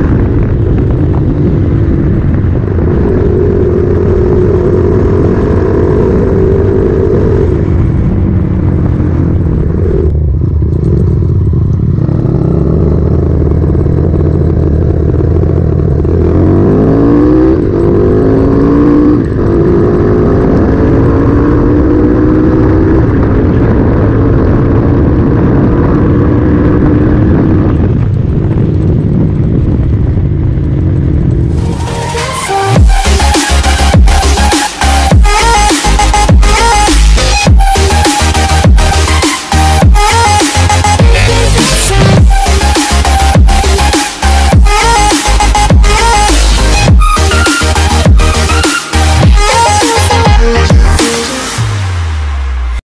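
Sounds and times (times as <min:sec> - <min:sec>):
motorcycle engine revving: 0:00.0 - 0:52.8.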